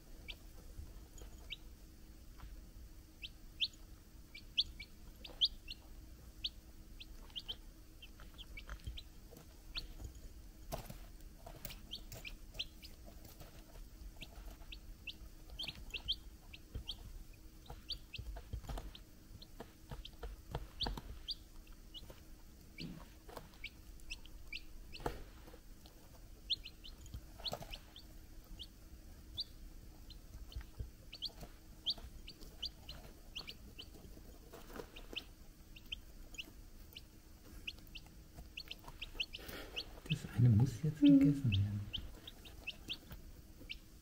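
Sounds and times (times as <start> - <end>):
chicks peeping: 0.0 - 44.0
beaks pecking in ceramic bowls: 3.2 - 44.0.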